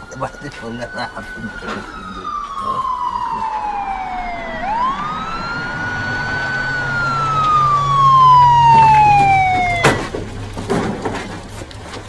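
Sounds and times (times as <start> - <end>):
police car siren wailing: 0.0 - 10.6.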